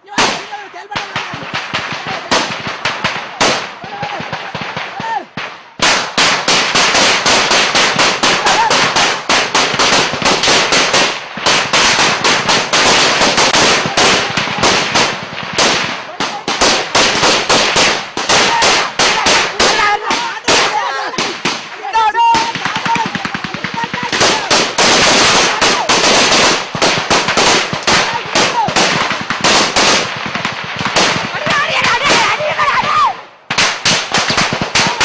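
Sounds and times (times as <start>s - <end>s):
scattered gunshots: 0.1s - 35.0s
automatic gunfire: 0.2s - 32.6s, 33.5s - 35.0s.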